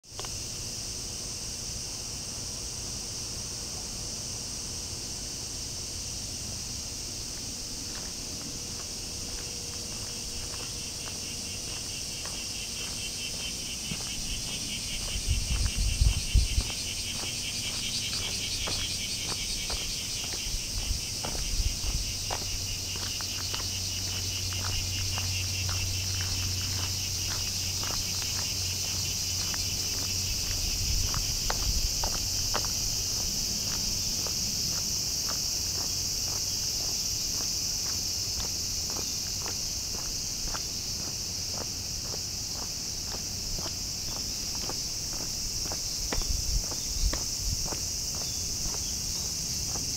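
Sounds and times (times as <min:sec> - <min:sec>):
cicadas buzzing: 0:00.0 - 0:49.9.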